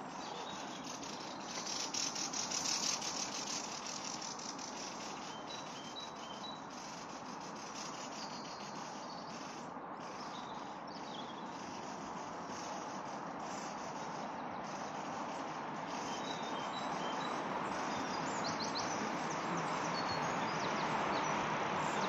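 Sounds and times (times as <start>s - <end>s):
birds singing: 0.0s - 22.0s.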